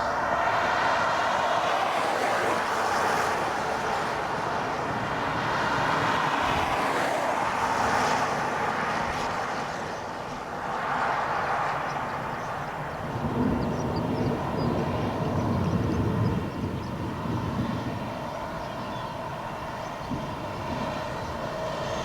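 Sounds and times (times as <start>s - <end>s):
strong wind over microphone: 0.0s - 22.0s.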